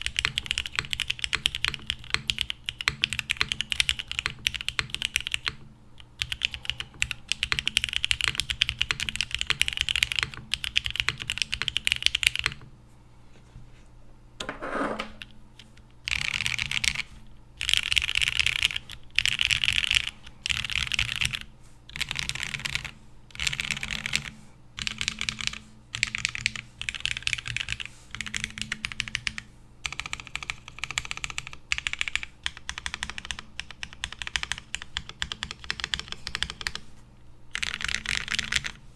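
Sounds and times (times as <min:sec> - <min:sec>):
fast mechanical keyboard typing: 0:00.0 - 0:05.6, 0:06.2 - 0:12.6, 0:16.0 - 0:36.8, 0:37.5 - 0:38.8.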